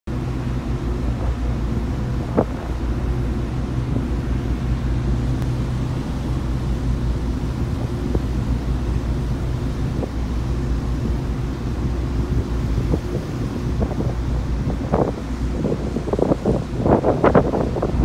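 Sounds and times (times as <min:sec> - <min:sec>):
ferry diesel engines droning: 0:00.1 - 0:18.0
wind rumbling on microphone: 0:00.1 - 0:18.0.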